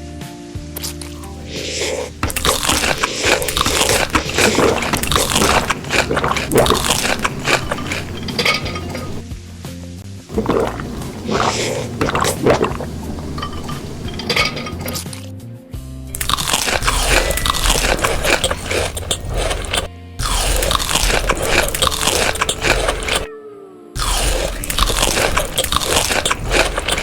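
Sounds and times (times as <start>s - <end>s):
crunchy food being chewed: 0.8s - 9.2s, 10.3s - 15.2s, 16.2s - 23.3s, 24.0s - 27.0s.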